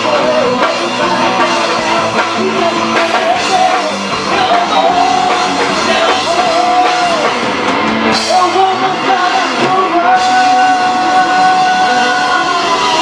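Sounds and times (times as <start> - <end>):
drum kit: 0.0 - 13.0
guitar: 0.0 - 13.0
wavering melodic lead line: 0.0 - 13.0.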